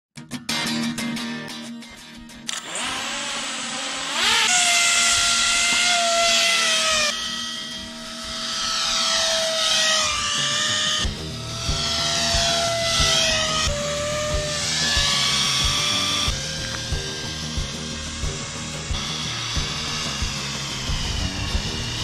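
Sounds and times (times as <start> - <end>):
model aircraft motor whining: 2.5 - 22.0.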